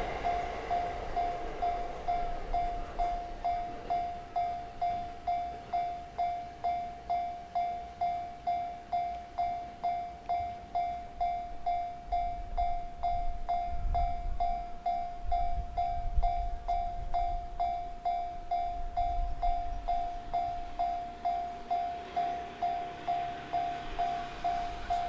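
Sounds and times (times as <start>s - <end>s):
level crossing warning bell: 0.0s - 25.0s
low rumble of train: 0.0s - 25.0s.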